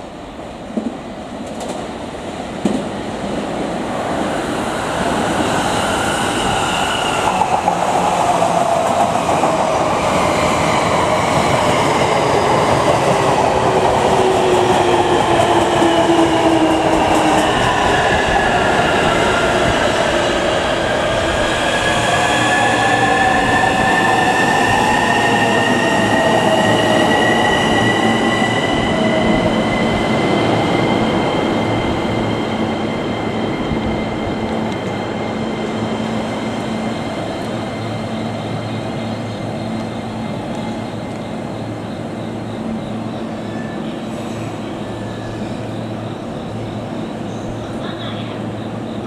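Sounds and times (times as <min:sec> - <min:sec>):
train rolling noise: 0:00.0 - 0:49.0.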